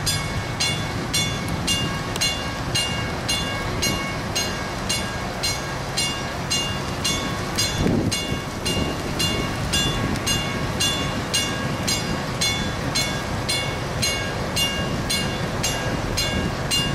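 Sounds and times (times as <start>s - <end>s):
warning bell ringing: 0.0s - 16.9s.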